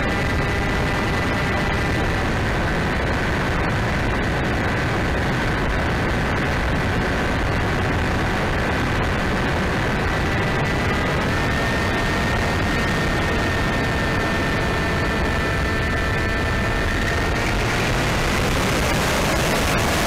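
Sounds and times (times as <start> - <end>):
electric motor and propeller whine: 0.0 - 20.0
wind rush: 0.0 - 20.0.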